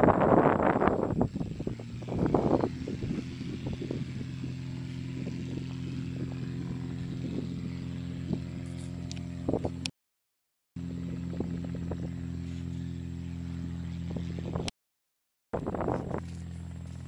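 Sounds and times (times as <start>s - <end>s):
light aircraft engine running: 0.0s - 9.9s, 10.8s - 14.7s, 15.6s - 17.0s.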